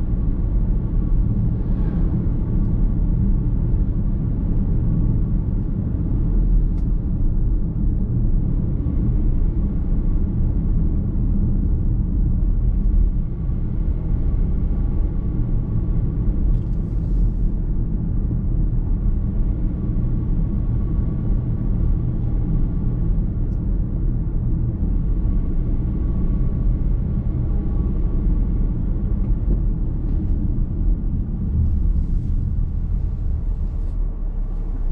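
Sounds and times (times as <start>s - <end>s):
car driving heard from inside: 0.0s - 34.9s.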